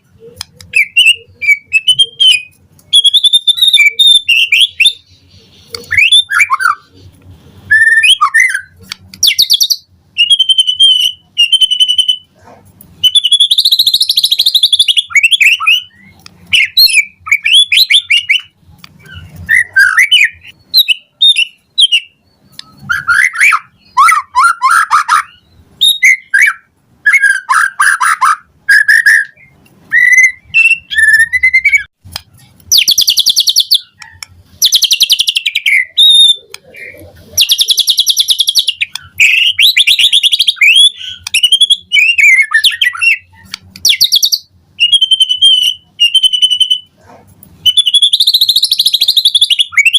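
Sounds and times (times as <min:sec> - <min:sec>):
bird singing: 0:00.0 - 0:07.1, 0:07.7 - 0:12.3, 0:13.0 - 0:46.9, 0:47.6 - 0:49.9.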